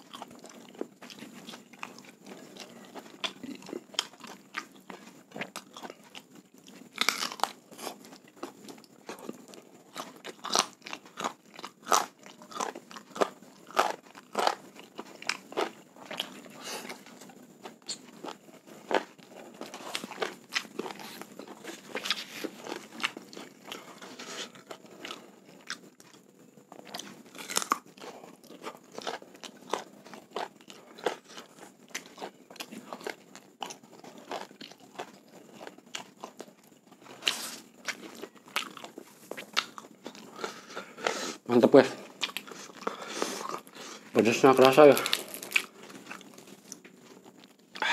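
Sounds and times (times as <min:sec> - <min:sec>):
chewing with crunches: 0:00.0 - 0:47.9.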